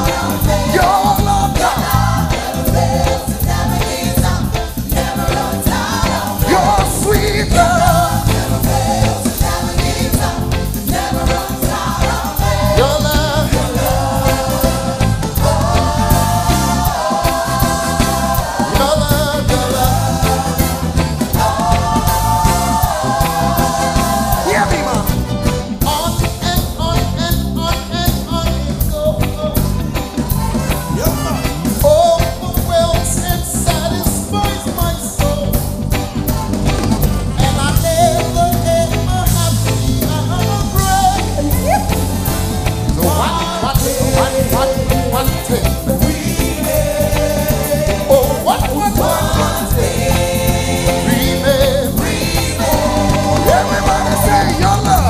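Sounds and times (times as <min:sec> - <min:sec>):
male lead singer: 0:00.0 - 0:55.0
reggae worship band playing: 0:00.0 - 0:55.0.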